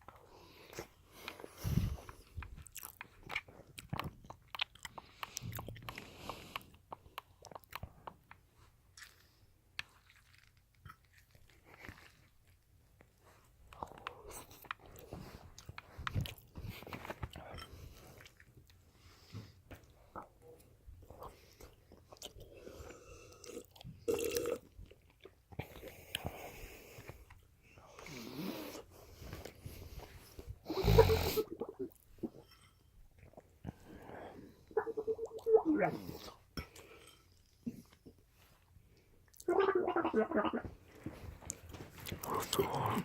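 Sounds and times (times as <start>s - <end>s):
person chewing food: 0.0s - 39.5s, 40.6s - 43.0s.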